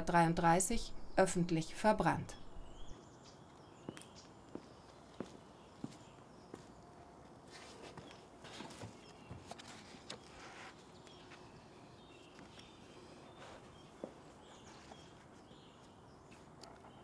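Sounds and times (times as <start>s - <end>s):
soft bird chirps: 0.6s - 17.0s.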